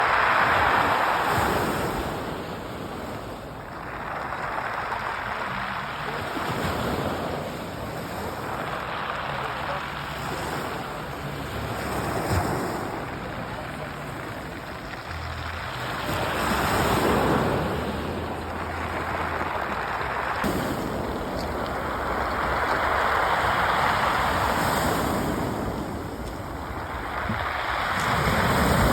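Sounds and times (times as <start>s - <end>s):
waves washing onto pebble beach: 0.0s - 28.9s.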